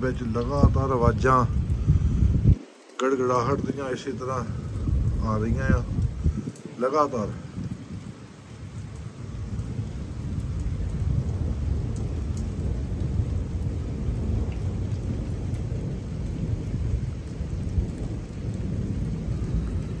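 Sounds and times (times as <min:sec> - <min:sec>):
heavy rain: 0:00.0 - 0:20.0
raindrops ticking: 0:00.0 - 0:20.0
thunder rumbling: 0:00.0 - 0:20.0.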